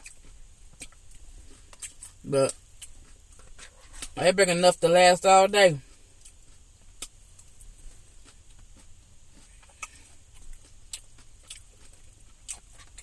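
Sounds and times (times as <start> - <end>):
close-up chewing: 0.0 - 4.3, 5.8 - 13.0
faint low hum: 0.0 - 13.0.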